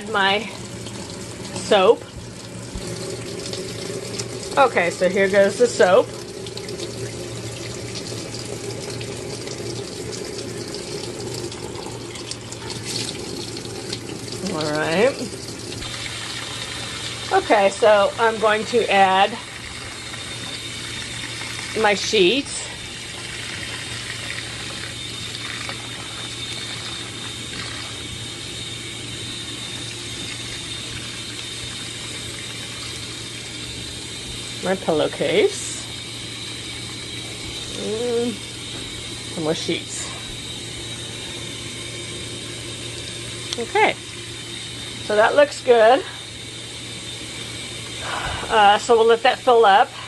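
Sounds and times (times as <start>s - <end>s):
low steady hum: 0.0s - 50.0s
water running into a tub: 0.0s - 50.0s.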